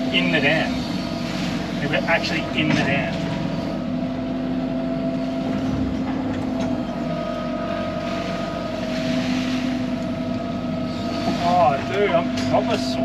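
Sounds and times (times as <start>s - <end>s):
excavator diesel engine running: 0.0s - 13.0s
steady whine: 0.0s - 13.0s.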